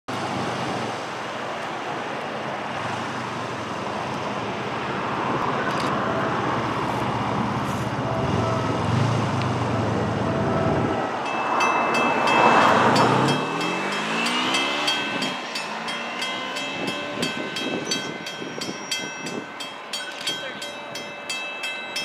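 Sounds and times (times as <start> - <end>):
low engine hum: 0.1 - 21.6
distant train rumble: 3.8 - 22.0.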